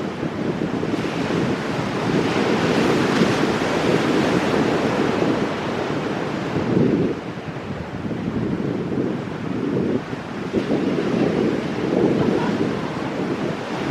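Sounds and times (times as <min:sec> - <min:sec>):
ocean surf breaking on rocks: 0:00.0 - 0:13.9
wind buffeting microphone: 0:00.0 - 0:13.9.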